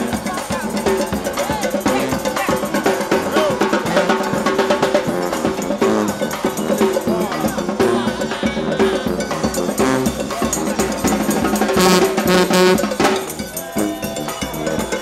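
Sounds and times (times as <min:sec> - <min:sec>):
brass band playing upbeat tune: 0:00.0 - 0:15.0
drums: 0:00.0 - 0:15.0.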